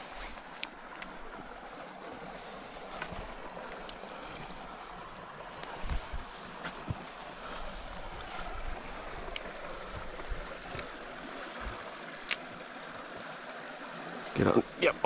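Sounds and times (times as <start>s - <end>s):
river water running over rocks: 0.0s - 15.0s.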